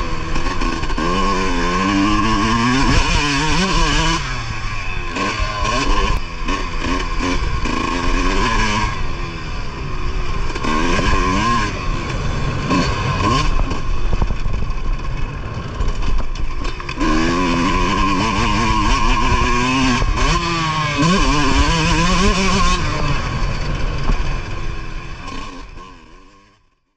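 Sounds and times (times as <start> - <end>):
motocross bike engine revving: 0.0 - 26.7.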